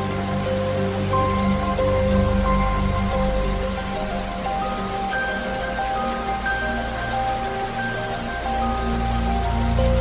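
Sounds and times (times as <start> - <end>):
soft slow music: 0.0 - 10.0
steady rain falling: 0.0 - 10.0.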